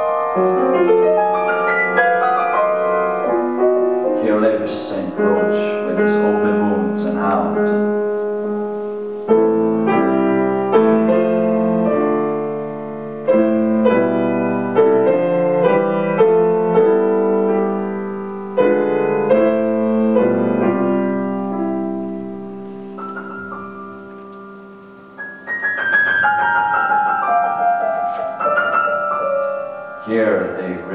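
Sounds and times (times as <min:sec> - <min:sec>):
grand piano chords: 0:00.0 - 0:30.9.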